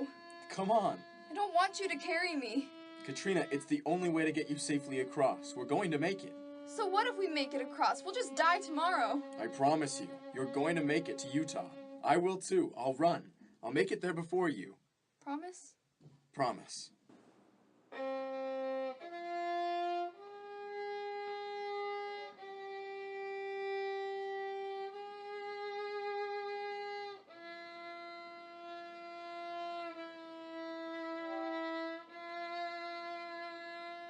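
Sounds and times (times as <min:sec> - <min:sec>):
solo violin slow melody: 0:00.0 - 0:12.8, 0:17.9 - 0:34.0.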